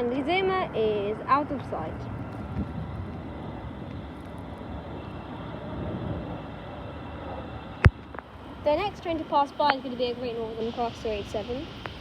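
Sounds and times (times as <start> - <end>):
distant vehicle rumble: 0.0 - 12.0.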